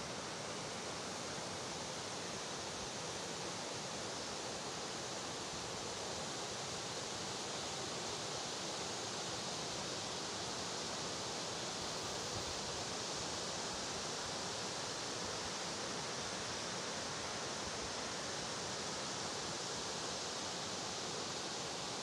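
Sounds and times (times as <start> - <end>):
rocky mountain stream rushing: 0.0 - 22.0.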